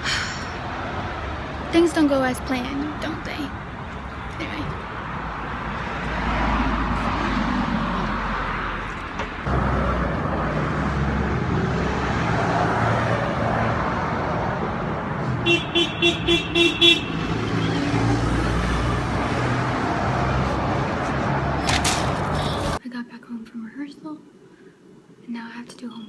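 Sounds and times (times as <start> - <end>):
road vehicle rumble: 0.0 - 22.8.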